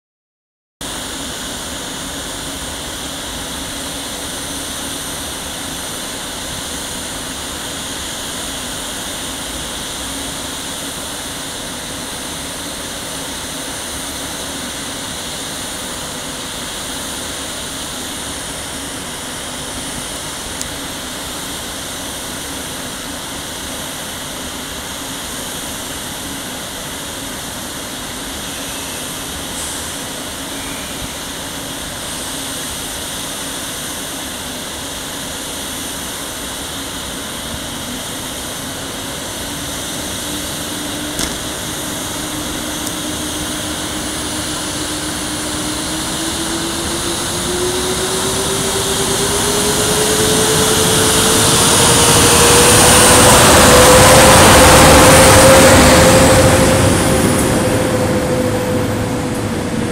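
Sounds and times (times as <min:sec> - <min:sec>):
locomotive cooling blowers humming: 0:00.8 - 0:59.9.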